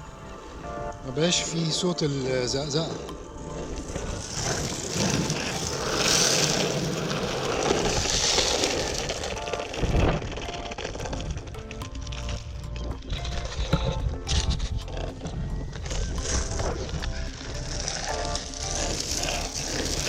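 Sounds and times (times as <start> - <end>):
skateboard wheels rolling on pavement: 0.0 - 20.0.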